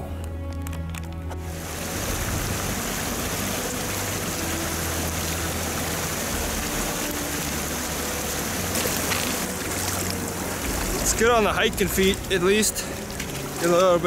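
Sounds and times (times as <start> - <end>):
creek rushing over stones: 1.4 - 14.0
person wading through water: 2.2 - 14.0.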